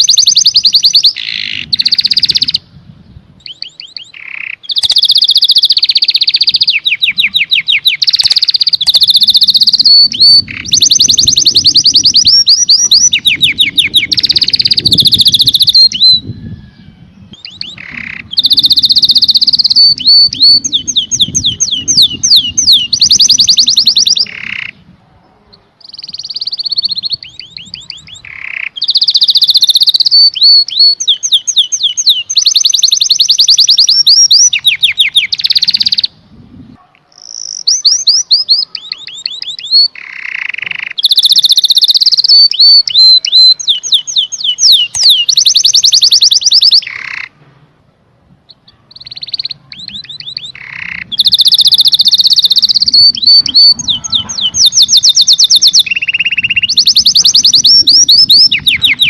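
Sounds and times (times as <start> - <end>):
canary singing trills: 0.0 - 36.2, 36.8 - 47.4, 48.5 - 59.0.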